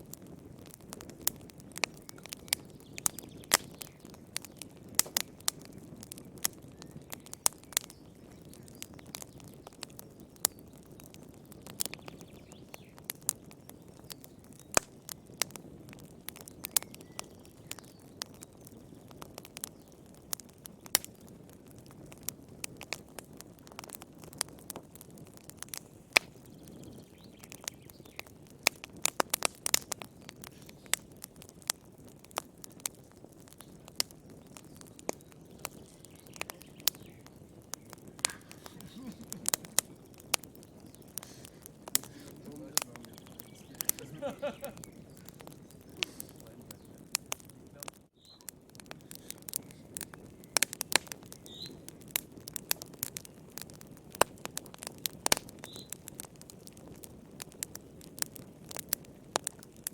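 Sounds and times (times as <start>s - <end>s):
fire crackling and popping: 0.0s - 59.9s
low rush of flames: 0.0s - 59.9s.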